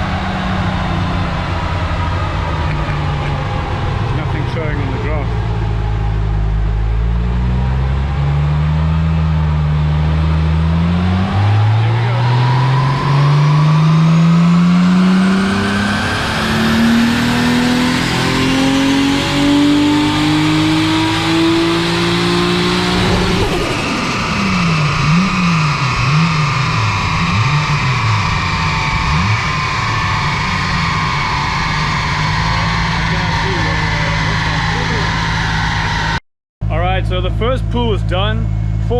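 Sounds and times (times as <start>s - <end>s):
car engine revving on dyno: 0.0s - 36.2s.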